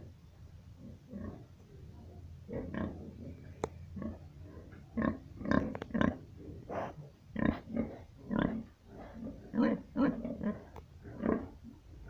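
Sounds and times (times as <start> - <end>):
pigs grunting: 0.8 - 12.0.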